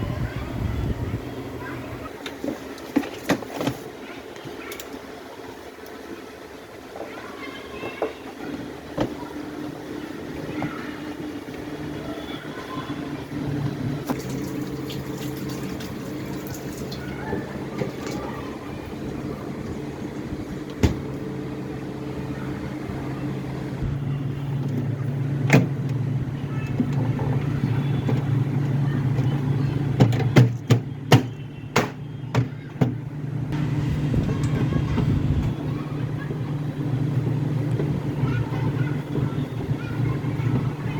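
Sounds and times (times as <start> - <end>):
refrigerator compressor humming: 0.0 - 40.9.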